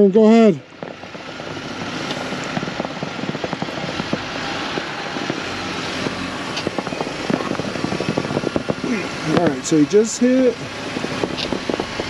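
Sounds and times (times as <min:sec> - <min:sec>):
tyres crackling on snow: 0:00.0 - 0:12.0
car engine running: 0:00.6 - 0:12.0.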